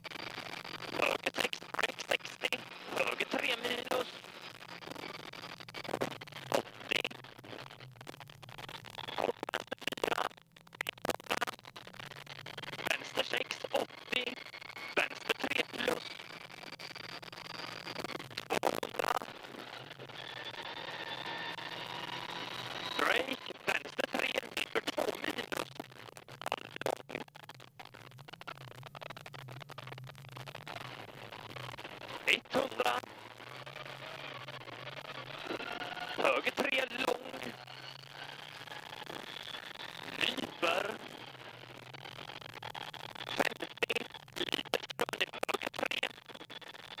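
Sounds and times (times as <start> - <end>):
scratchy crackles and clicks: 0.0 - 47.0.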